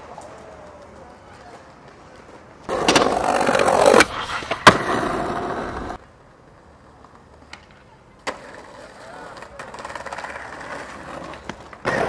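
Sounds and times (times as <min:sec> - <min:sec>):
skateboard snap: 0:00.0 - 0:06.0, 0:07.0 - 0:12.0
skateboard clack: 0:00.0 - 0:12.0
skateboard wheels rolling on concrete: 0:00.0 - 0:12.0.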